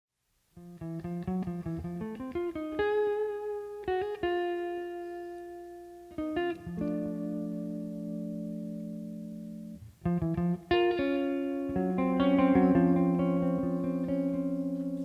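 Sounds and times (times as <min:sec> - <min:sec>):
solo guitar plucked notes: 0:00.6 - 0:15.0.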